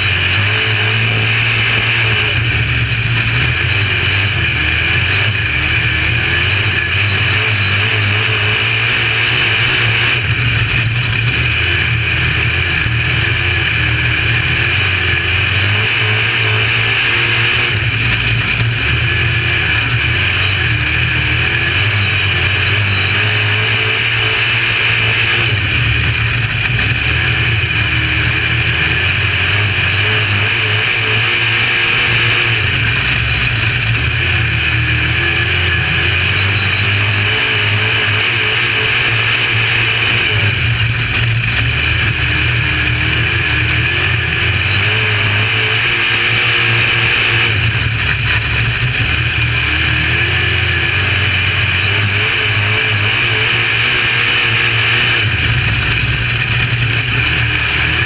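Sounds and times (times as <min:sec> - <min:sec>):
racing car engine revving: 0:00.0 - 0:58.0
steady rushing noise: 0:00.0 - 0:58.0.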